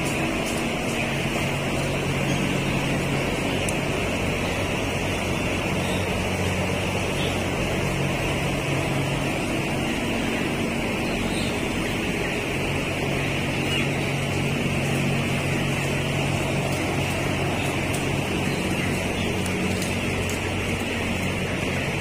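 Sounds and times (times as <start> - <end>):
chicks peeping: 0.0 - 22.0
exhaust fans droning: 0.0 - 22.0.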